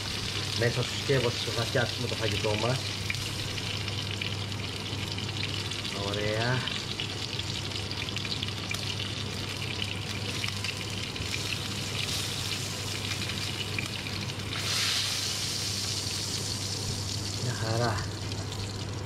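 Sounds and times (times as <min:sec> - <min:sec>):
oil sizzling in a frying pan: 0:00.0 - 0:19.0
steady low hum: 0:00.0 - 0:19.0.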